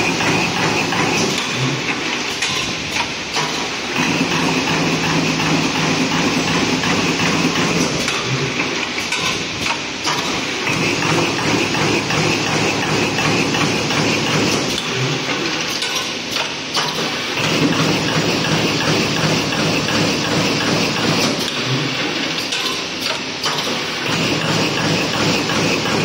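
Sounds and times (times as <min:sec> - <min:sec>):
die-punching machine striking: 0:00.0 - 0:08.3, 0:09.1 - 0:26.0.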